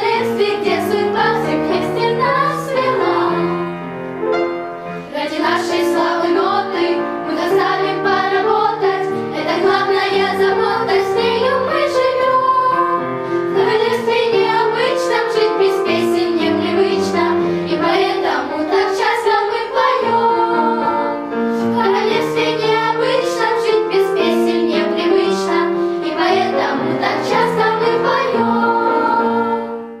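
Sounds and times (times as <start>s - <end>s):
high voices singing: 0.0s - 4.0s, 4.8s - 30.0s
instrumental accompaniment: 0.0s - 30.0s.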